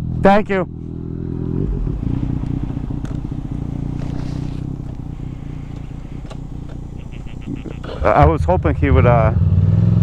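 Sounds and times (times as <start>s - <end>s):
motorcycle engine at low revs: 0.0s - 10.0s.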